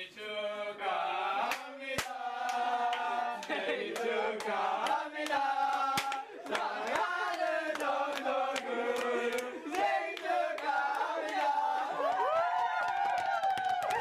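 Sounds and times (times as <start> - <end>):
men singing in chorus: 0.0 - 12.0
hand claps: 1.5 - 14.0.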